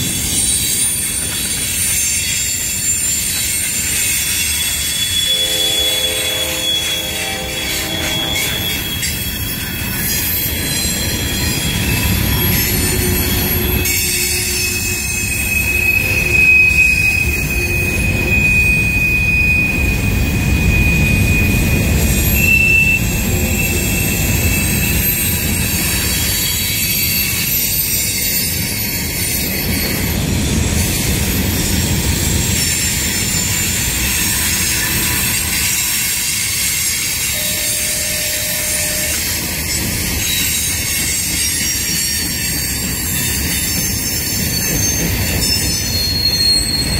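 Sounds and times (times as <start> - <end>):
train cars rumbling: 0.0 - 46.9
wheels squealing on rails: 0.0 - 46.9.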